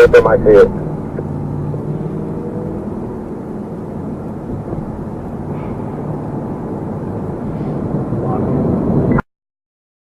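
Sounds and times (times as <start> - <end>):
road noise: 0.0 - 9.2
vehicle engine rumble: 0.0 - 9.2.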